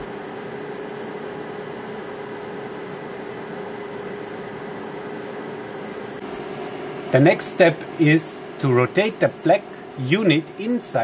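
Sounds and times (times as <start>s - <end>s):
background hum and hiss: 0.0s - 11.0s
faint constant tone: 0.0s - 11.0s.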